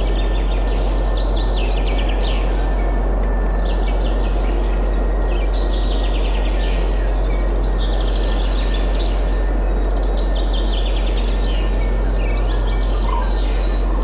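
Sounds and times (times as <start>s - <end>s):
songbirds singing trills: 0.0s - 14.0s.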